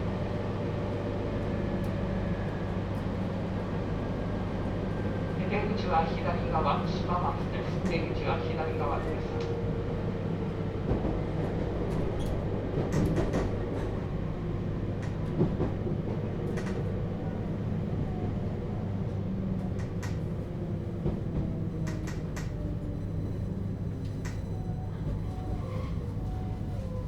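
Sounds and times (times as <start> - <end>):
train motors and wheels humming: 0.0 - 27.0.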